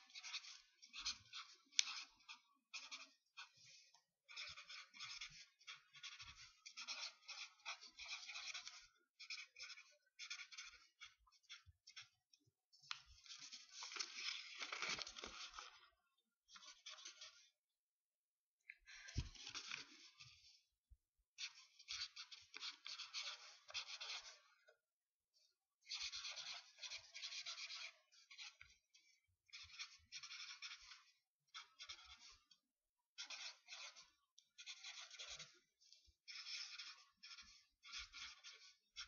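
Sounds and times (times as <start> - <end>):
pen writing on paper: 0.0 - 12.2, 12.9 - 15.9, 16.5 - 17.5, 18.9 - 20.5, 21.4 - 24.5, 25.9 - 28.9, 29.5 - 32.6, 33.2 - 39.0.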